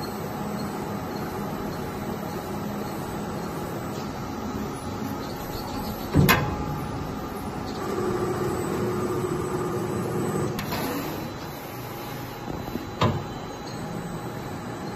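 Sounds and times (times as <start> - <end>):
machine noise: 0.0 - 14.9
motor hum: 0.0 - 14.9.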